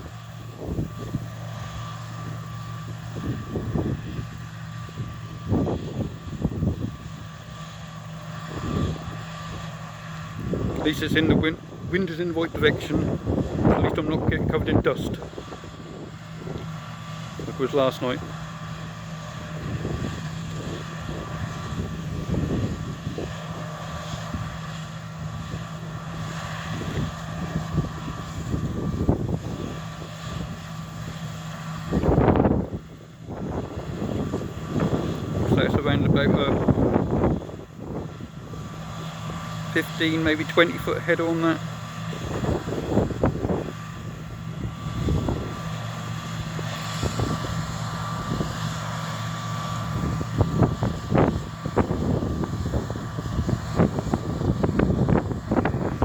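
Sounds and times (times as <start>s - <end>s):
combine harvester engine hum: 0.0s - 56.0s
high whine: 0.0s - 56.0s
wind buffeting microphone: 0.0s - 56.0s.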